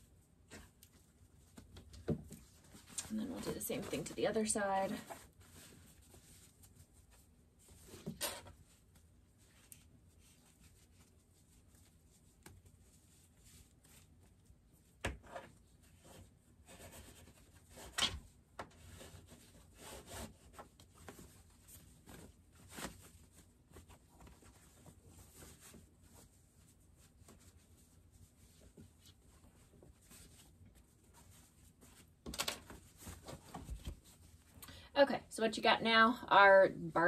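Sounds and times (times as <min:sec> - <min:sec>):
fabric rubbing and rustling: 0:00.0 - 0:34.6.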